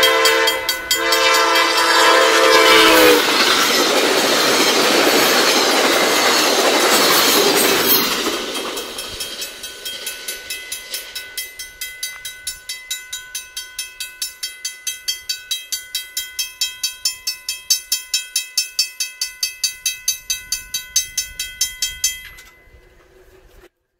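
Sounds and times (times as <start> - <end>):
level-crossing bell ringing: 0.0 - 23.0
train wheel and rail noise: 0.0 - 23.7.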